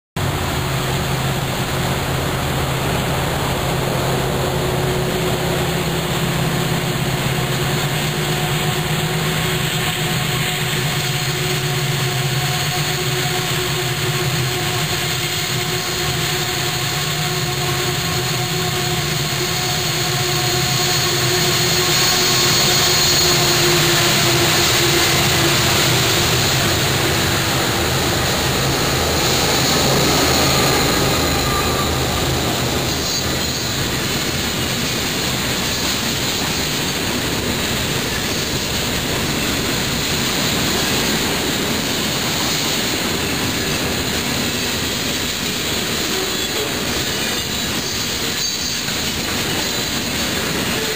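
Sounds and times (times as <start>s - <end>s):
diesel locomotives running: 0.2s - 50.9s.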